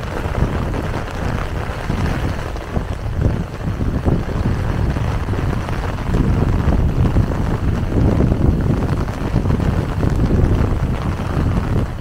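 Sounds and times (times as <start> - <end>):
heavy rain falling: 0.0 - 12.0
wind gusts on microphone: 0.0 - 12.0.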